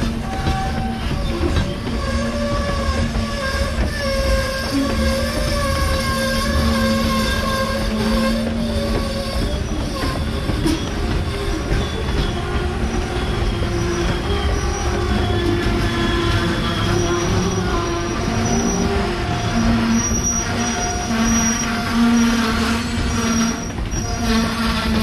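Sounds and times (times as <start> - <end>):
low rumble of train cars: 0.0 - 25.0
train wheels squealing: 0.0 - 25.0.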